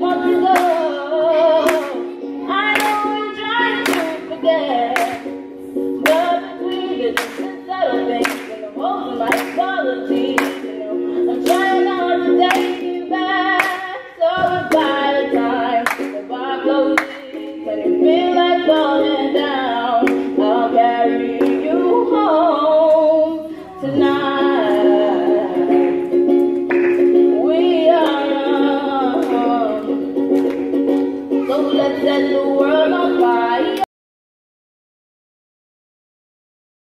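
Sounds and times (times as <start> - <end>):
woman singing: 0.0 - 5.4, 6.0 - 26.3, 27.1 - 30.4, 31.3 - 33.9
strummed ukulele chords: 0.0 - 33.9.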